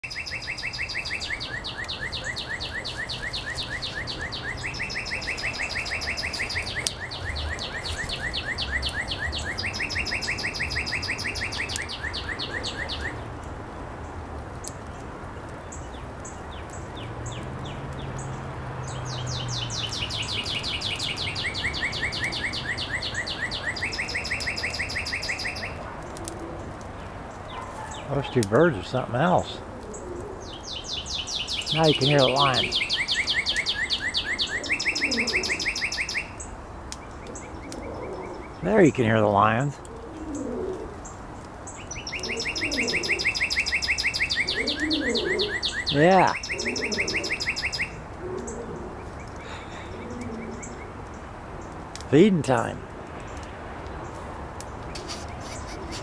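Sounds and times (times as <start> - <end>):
birds calling repeated notes: 0.0 - 56.0.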